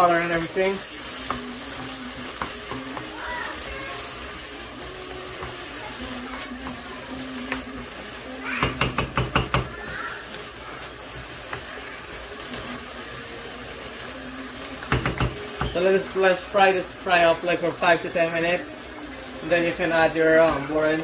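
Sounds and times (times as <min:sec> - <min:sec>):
vegetables sizzling in a pan: 0:00.0 - 0:21.0
wooden spatula stirring: 0:00.0 - 0:21.0.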